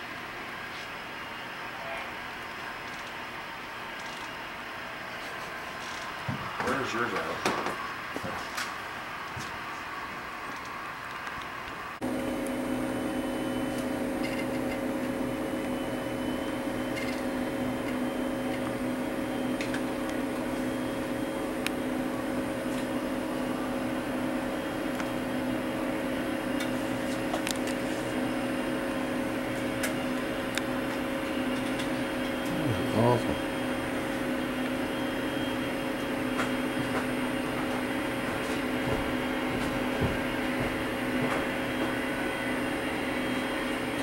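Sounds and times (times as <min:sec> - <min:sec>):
mechanical hum of fan: 0:00.0 - 0:44.0.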